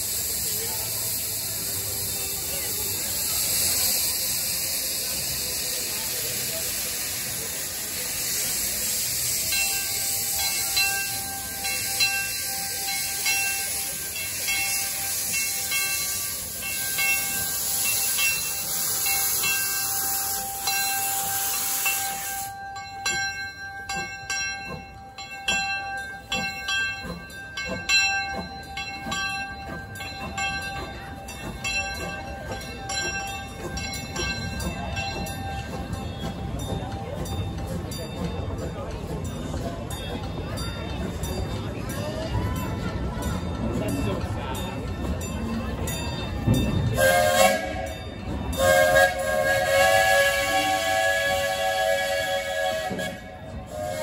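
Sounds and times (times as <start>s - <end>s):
steam hissing loudly: 0.0s - 54.0s
wheels clanking over rail joints: 0.0s - 54.0s.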